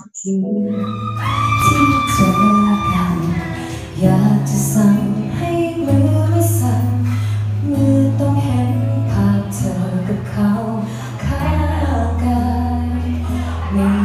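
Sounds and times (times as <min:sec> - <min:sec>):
woman singing pop song: 0:00.0 - 0:14.0
instrumental accompaniment with bass: 0:00.6 - 0:14.0.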